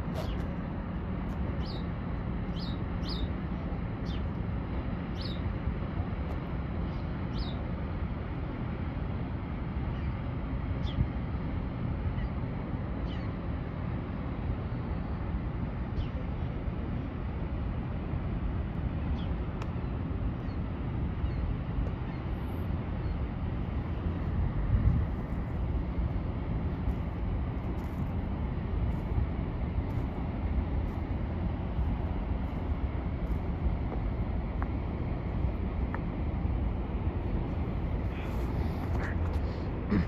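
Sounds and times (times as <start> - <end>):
ship engine rumble: 0.0 - 40.0.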